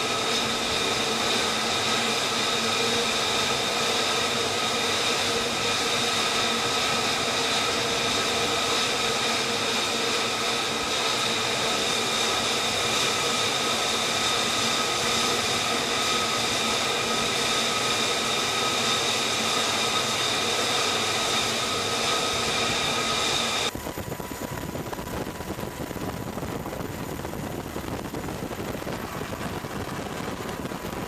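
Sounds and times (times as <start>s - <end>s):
aircraft rumble: 0.0s - 31.0s
jet engines whining: 0.0s - 31.0s.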